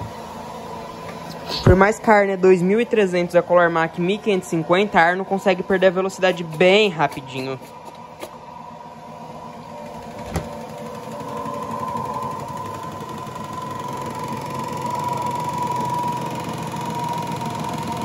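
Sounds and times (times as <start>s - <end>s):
washing machine spin whining: 0.0s - 18.0s.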